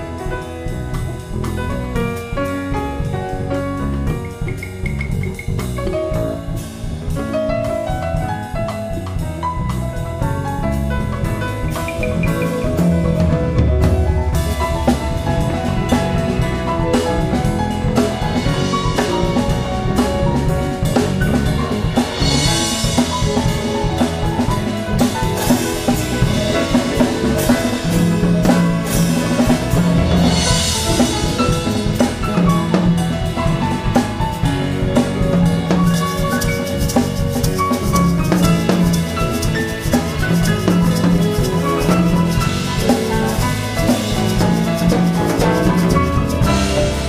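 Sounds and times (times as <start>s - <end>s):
bass line: 0.0s - 47.0s
drum kit: 0.0s - 47.0s
grand piano playing quick runs: 0.0s - 47.0s.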